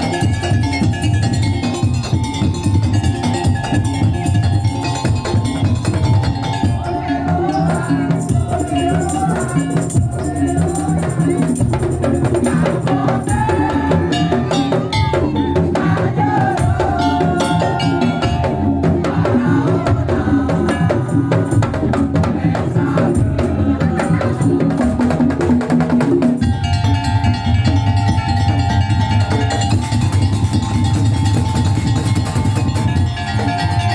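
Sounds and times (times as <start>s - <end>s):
wavering melody line: 0.0s - 21.3s, 26.4s - 33.9s
drums and wooden percussion: 0.0s - 33.9s.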